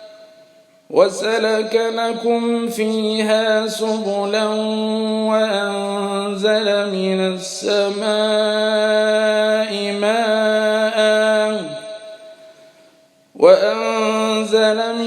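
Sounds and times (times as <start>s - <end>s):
man chanting melodically: 0.0s - 12.6s, 13.3s - 15.0s.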